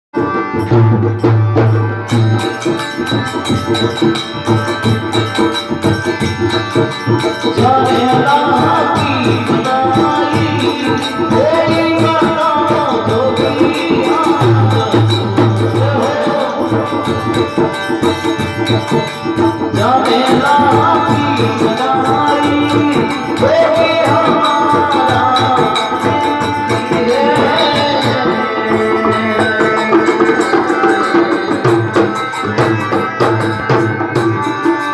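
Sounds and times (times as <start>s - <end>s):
hand drum beat: 0.2s - 34.9s.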